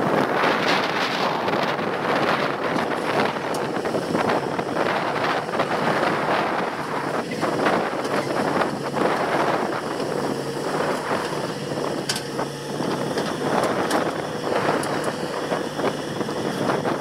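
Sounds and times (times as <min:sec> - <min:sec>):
diesel engine running: 0:00.0 - 0:17.0
wind on microphone: 0:00.0 - 0:17.0.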